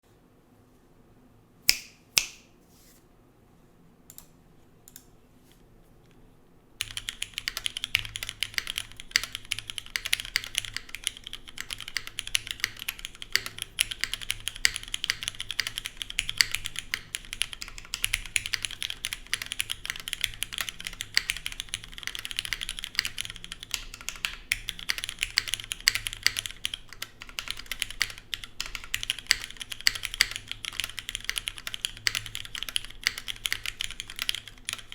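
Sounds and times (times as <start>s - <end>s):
fast typing on mechanical keyboard: 6.8s - 34.9s.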